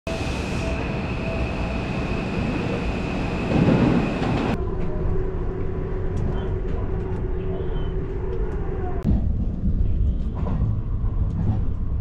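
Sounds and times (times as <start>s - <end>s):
electric train rumble with whine: 0.1s - 12.0s
train interior hum: 0.1s - 12.0s.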